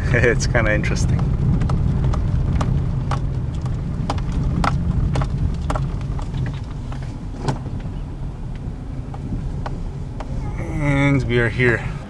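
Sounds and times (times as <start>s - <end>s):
sharp clicks and rattles: 0.0s - 11.8s
car engine and road rumble: 0.0s - 12.0s.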